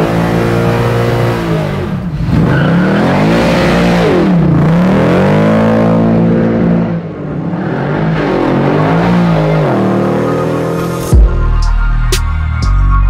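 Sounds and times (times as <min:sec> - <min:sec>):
car engine revving hard: 0:00.0 - 0:11.1.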